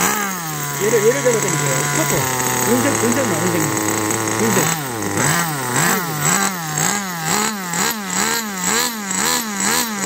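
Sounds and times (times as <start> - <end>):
small glow engine revving: 0.0 - 10.0.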